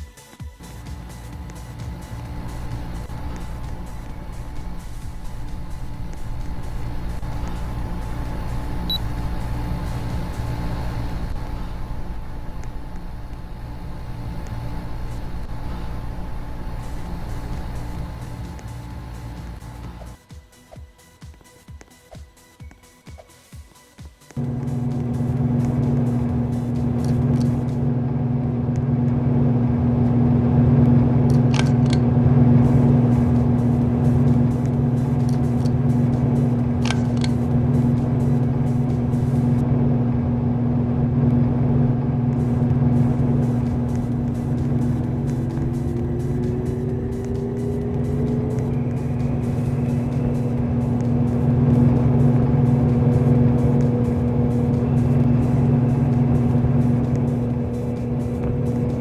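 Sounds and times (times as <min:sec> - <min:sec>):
ceiling fan motor humming: 0:00.5 - 0:20.2, 0:24.3 - 0:59.0.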